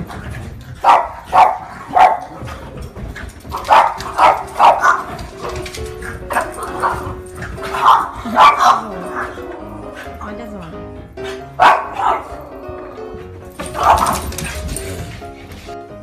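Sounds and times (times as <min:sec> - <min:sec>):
puppies barking: 0:00.0 - 0:10.0, 0:11.2 - 0:15.0
faint background music: 0:00.0 - 0:16.0.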